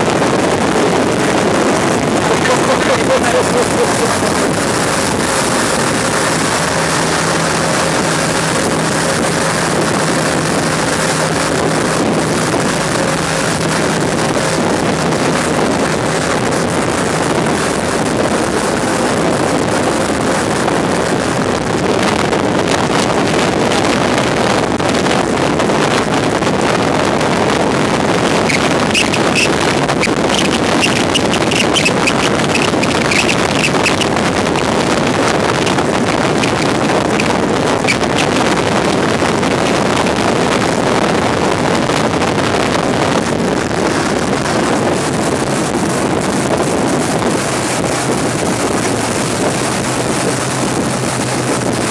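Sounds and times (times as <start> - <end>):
water rushing: 0.0 - 20.2, 27.1 - 51.9
motorboat engine drone: 0.0 - 51.9
wind buffeting microphone: 0.0 - 51.9.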